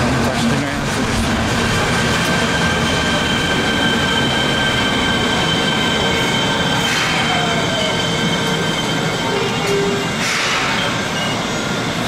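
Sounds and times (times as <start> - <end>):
subway train rumble: 0.0 - 12.0
train brakes squealing: 1.8 - 12.0.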